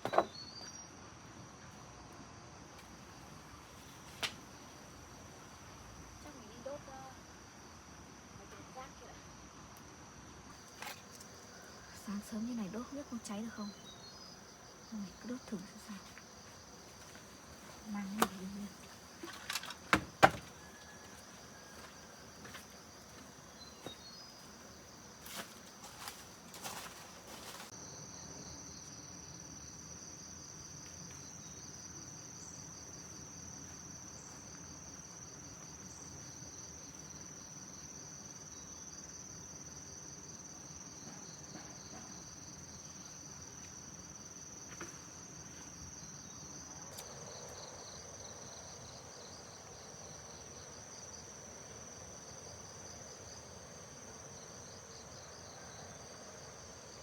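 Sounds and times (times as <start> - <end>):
insect chorus trilling: 10.5 - 57.0.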